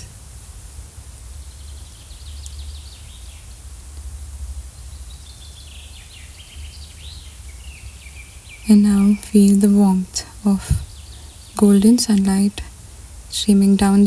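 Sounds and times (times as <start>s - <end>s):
low rumble and hiss: 0.0s - 14.0s
small birds chirping: 1.2s - 3.7s, 4.7s - 14.0s.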